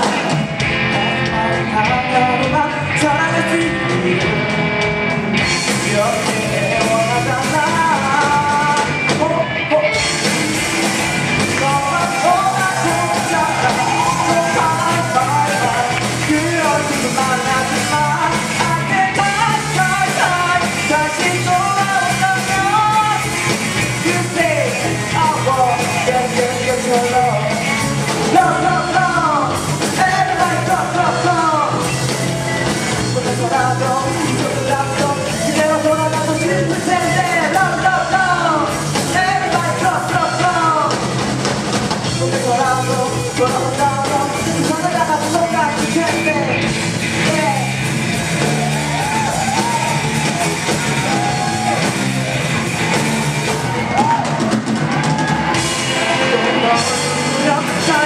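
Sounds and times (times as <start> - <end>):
person singing: 0.0 - 10.6, 11.4 - 41.0, 42.0 - 52.0, 52.9 - 58.0
drum kit: 0.0 - 58.0
electric guitars: 0.0 - 58.0.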